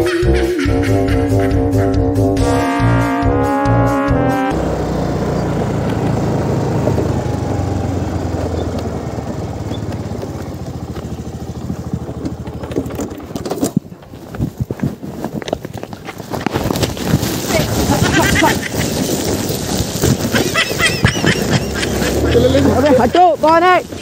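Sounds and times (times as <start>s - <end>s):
scooter engine running: 0.0s - 24.0s.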